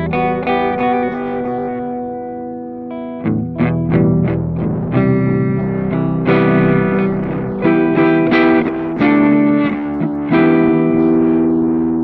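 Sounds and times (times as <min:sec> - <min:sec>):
distorted plucked chords: 0:00.0 - 0:12.0.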